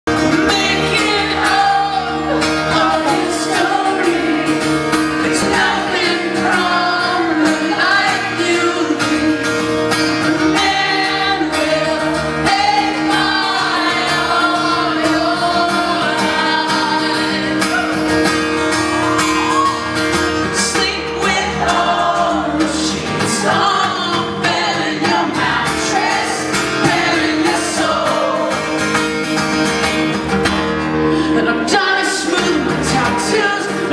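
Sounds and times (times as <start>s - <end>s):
acoustic guitar: 0.0s - 33.9s
people singing: 0.1s - 18.4s, 20.3s - 29.0s, 31.1s - 33.9s.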